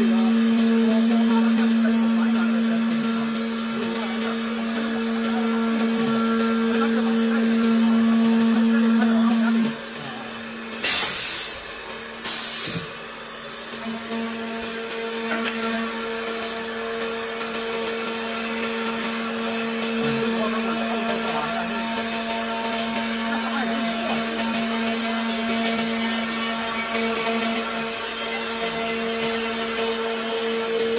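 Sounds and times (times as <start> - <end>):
milling spindle whine: 0.0 - 10.8, 13.2 - 30.9
wood cutting noise: 0.0 - 30.9.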